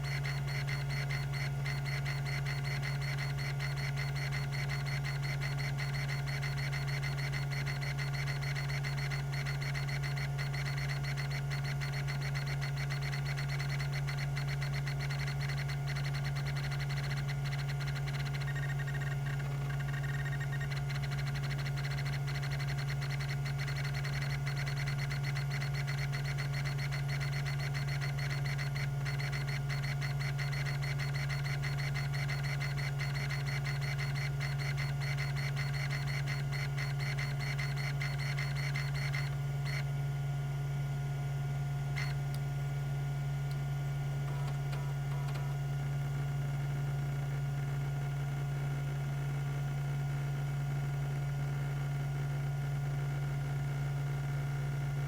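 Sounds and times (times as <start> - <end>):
hard drive head ticking chatter: 0.0 - 40.4, 41.7 - 47.3
hard drive spindle hum: 0.0 - 55.0.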